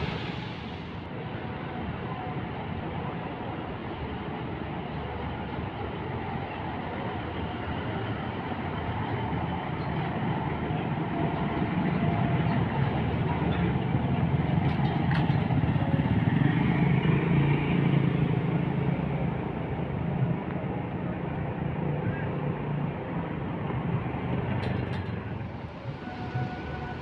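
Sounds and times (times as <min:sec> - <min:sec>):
bus diesel engine passing: 0:00.0 - 0:27.0.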